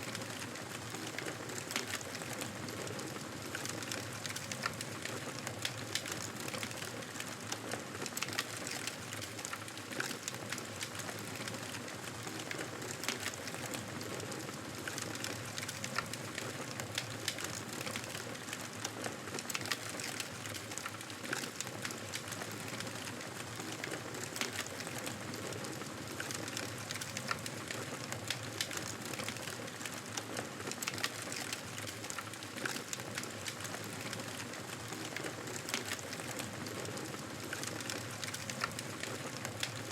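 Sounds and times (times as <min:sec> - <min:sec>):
campfire crackling and hissing: 0:00.1 - 0:39.9.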